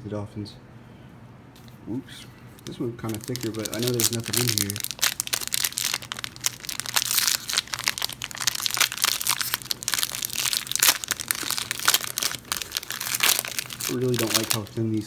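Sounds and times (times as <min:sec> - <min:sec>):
wrapper crinkling and tearing: 0:02.6 - 0:15.0.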